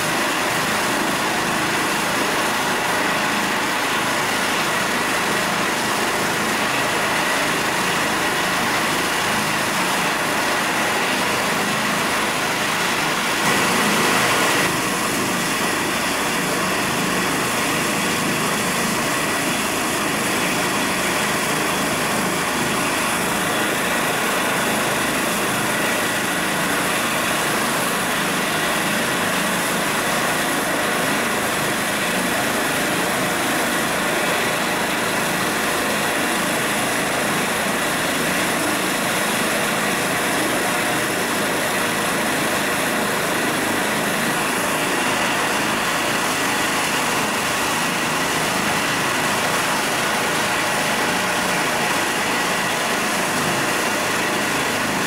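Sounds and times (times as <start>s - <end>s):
helicopter rotor noise: 0.0s - 55.0s
helicopter turbine whine: 0.0s - 55.0s.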